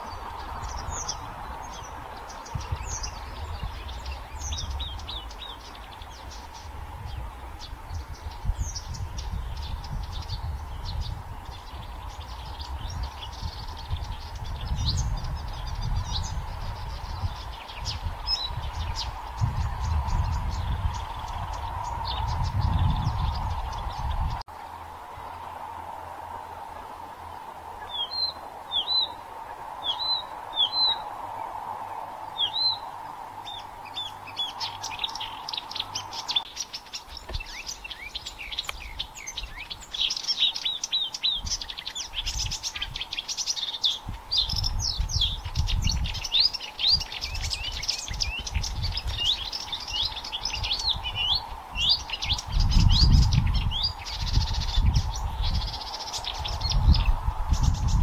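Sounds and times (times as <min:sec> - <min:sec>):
warbler singing: 0:00.0 - 0:25.6, 0:27.2 - 0:58.0.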